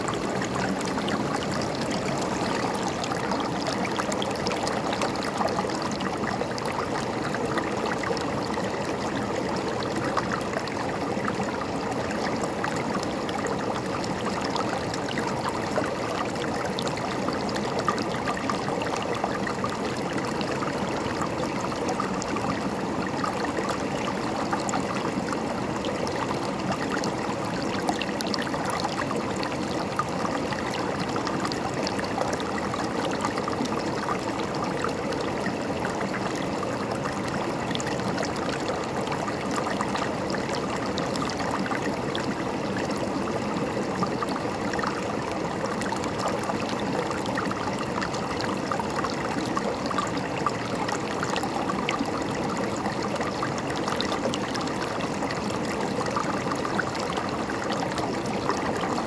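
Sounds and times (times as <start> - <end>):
river water over rocks: 0.0 - 59.0.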